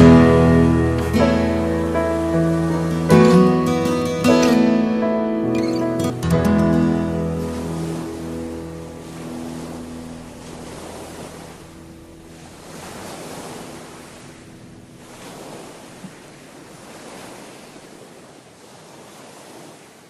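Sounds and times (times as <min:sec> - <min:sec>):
waves breaking on a beach: 0:00.0 - 0:20.0
wind: 0:00.0 - 0:20.0.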